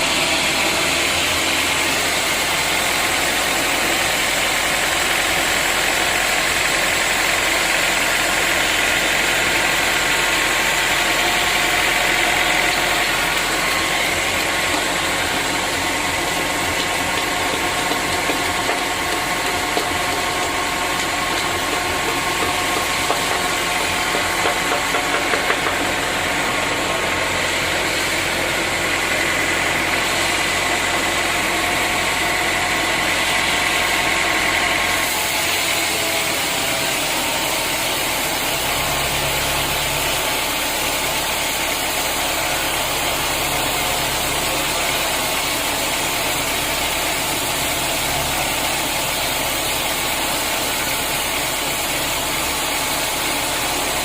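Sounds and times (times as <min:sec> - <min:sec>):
high machine whine: 0:00.0 - 0:54.0
sawmill machinery running: 0:00.0 - 0:54.0.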